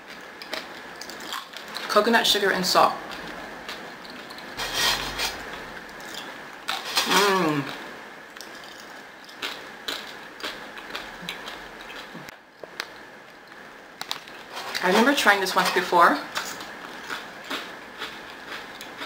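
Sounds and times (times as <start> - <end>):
chewing crunchy chips: 0.1 - 1.9, 3.0 - 14.8, 16.3 - 19.0.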